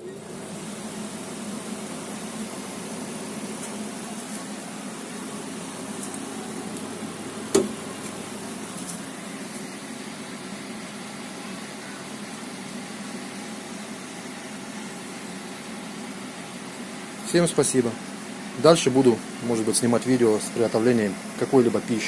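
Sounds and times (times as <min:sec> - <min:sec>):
electric fans humming: 0:00.0 - 0:22.0.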